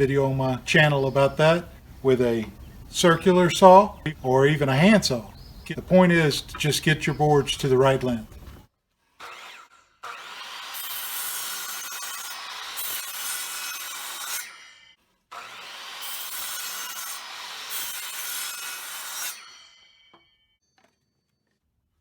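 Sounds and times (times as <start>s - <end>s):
saw blade whine: 0.0s - 8.6s, 9.2s - 20.6s
miter saw cutting wood: 0.0s - 20.2s.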